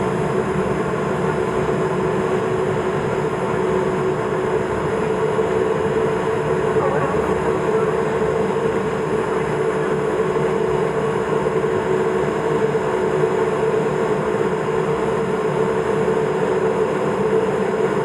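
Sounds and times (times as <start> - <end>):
turboprop engine cabin drone: 0.0 - 18.0.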